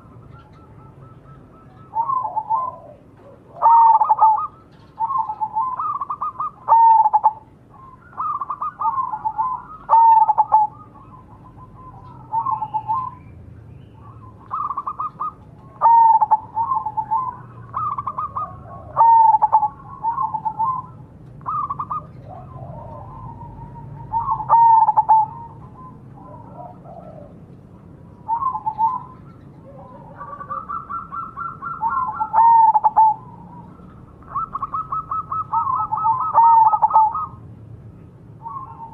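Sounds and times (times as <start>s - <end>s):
dove cooing: 0.0s - 13.2s, 14.0s - 37.4s, 38.4s - 38.9s.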